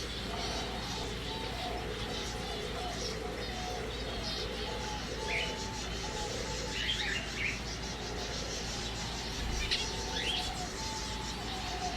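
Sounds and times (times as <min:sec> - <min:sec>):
small birds chirping: 0:00.0 - 0:11.9
steady background hiss: 0:00.0 - 0:11.9.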